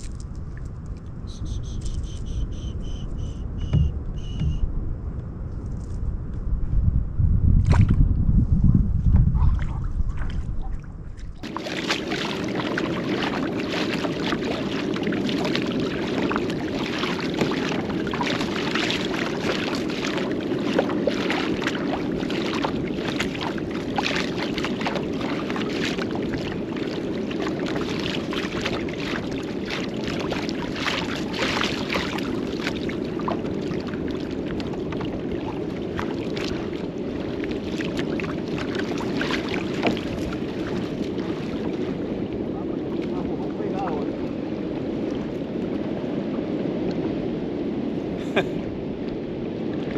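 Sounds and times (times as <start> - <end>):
water lapping against kayak: 0.0 - 4.8, 7.5 - 49.9
wind rumble on microphone: 0.0 - 49.9.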